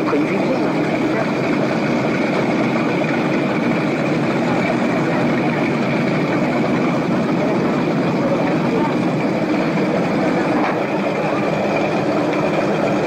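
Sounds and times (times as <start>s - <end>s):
boat engines idling: 0.0s - 13.0s.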